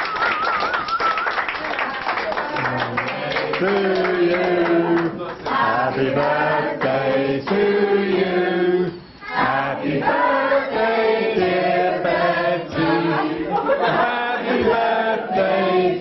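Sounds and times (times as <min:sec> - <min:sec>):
group singing unaccompanied: 0:02.6 - 0:16.0.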